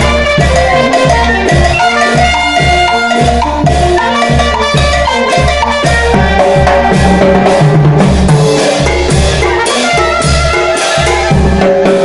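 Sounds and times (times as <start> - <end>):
bass drum beat: 0.0 - 12.0
cymbals: 0.0 - 12.0
horns playing dance tune: 0.0 - 12.0.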